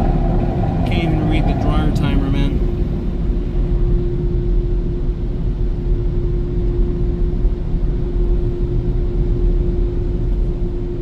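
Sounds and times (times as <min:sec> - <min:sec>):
car wash dryer blowers: 0:00.0 - 0:11.0.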